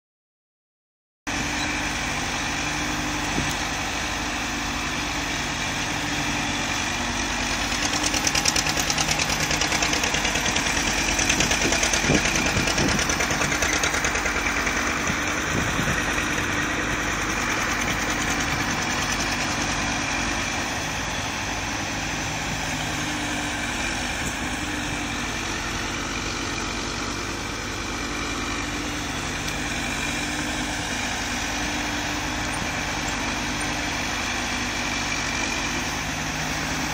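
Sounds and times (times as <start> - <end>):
diesel engine idling: 1.3 - 36.9.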